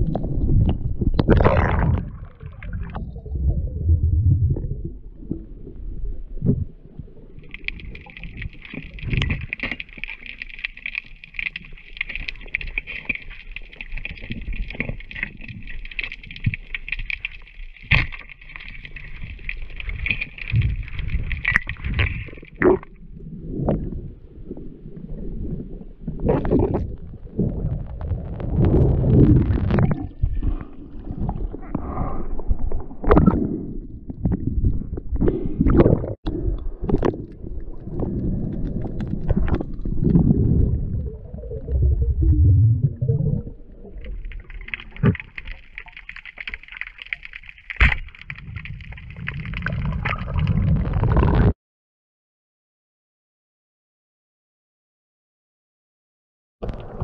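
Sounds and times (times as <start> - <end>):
underwater rumble: 0.0 - 51.5, 56.6 - 57.0
water splashing and sloshing: 0.0 - 51.5.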